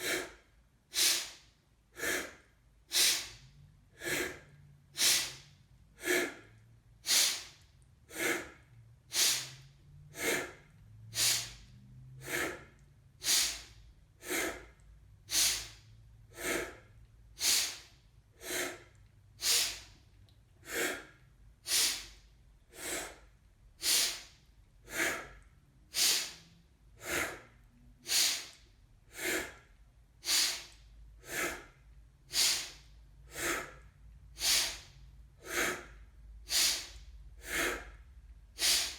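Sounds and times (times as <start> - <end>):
person breathing forcefully: 0.0 - 38.9.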